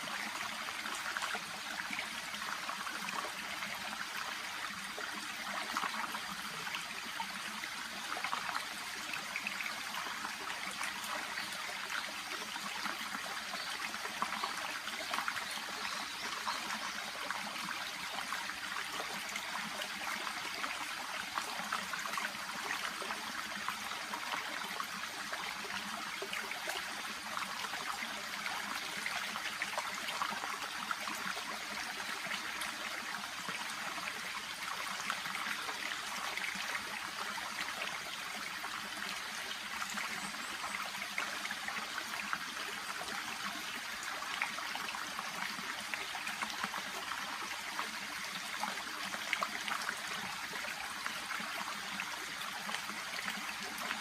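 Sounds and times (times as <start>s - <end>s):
babbling brook trickling: 0.0s - 54.0s.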